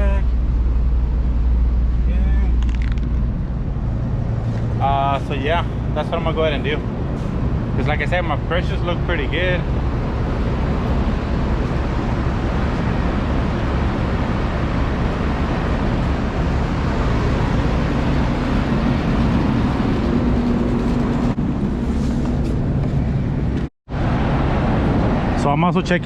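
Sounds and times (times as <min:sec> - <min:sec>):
air conditioner fan and compressor: 0:00.0 - 0:26.0.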